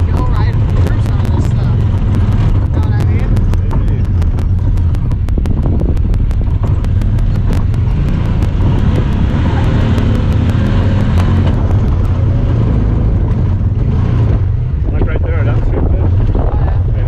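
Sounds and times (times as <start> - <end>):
engine low drone: 0.0 - 17.0.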